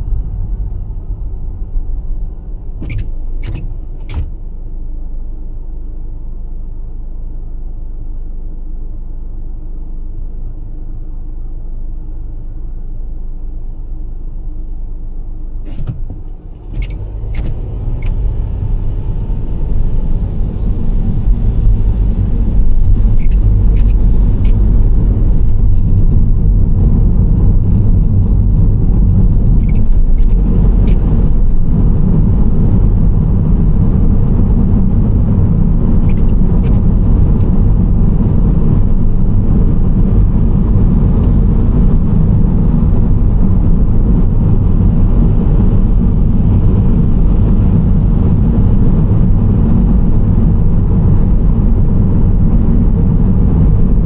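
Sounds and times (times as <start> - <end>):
engine and tyre road noise: 0.0 - 54.0.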